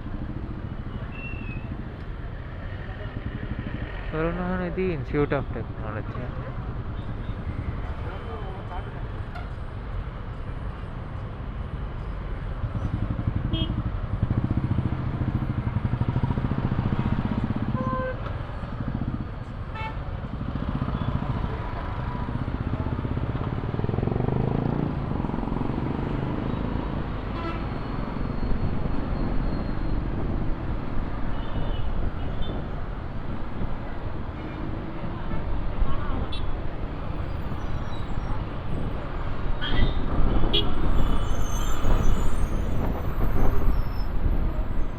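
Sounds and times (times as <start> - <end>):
road noise: 0.0 - 44.9.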